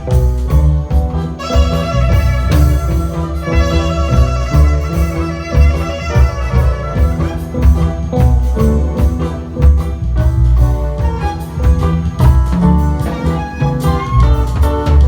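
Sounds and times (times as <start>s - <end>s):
band playing music: 0.0s - 15.0s
heavy bass line: 0.0s - 15.0s
steady drum beat: 0.0s - 15.0s.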